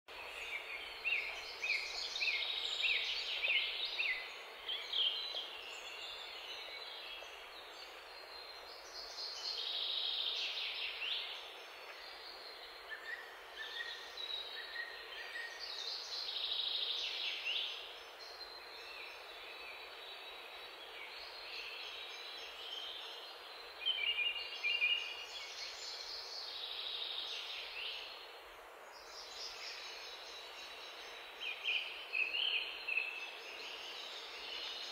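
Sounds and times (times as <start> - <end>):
steady background hiss: 0.1 - 34.9.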